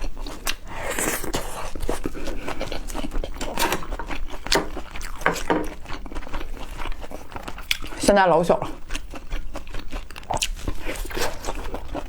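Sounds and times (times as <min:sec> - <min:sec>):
wet smacking and chewing: 0:00.0 - 0:08.1, 0:08.7 - 0:12.0.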